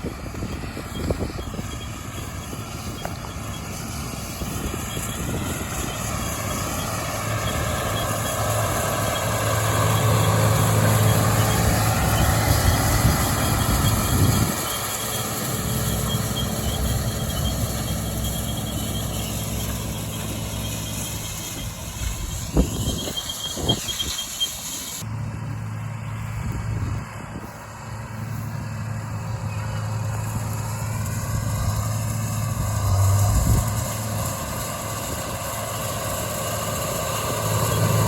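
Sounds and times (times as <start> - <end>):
tractor engine humming: 0.0 - 38.0.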